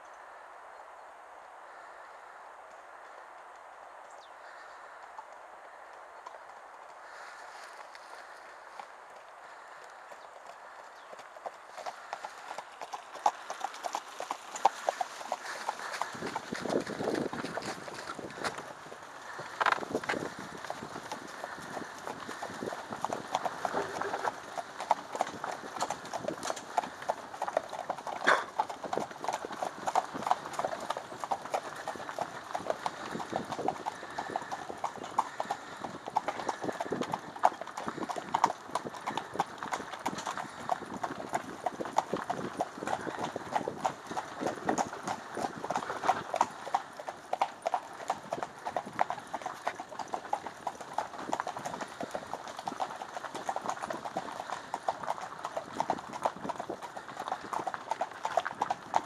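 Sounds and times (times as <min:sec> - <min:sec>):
horse hooves clip-clopping on dirt: 0:02.7 - 0:59.0.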